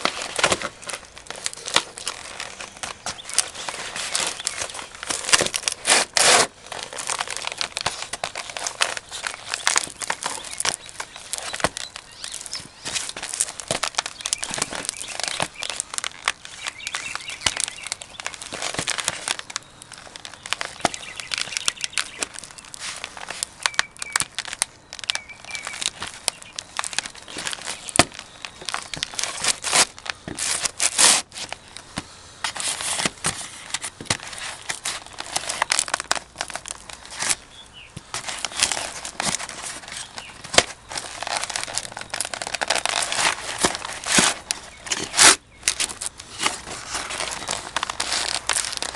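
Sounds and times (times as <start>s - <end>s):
cardboard boxes crunching underfoot: 0.0s - 48.9s.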